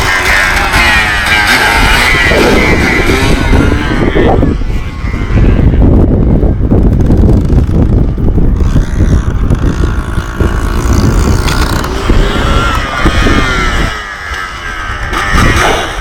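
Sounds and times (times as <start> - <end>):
quad bike engine running hard: 0.0 - 16.0.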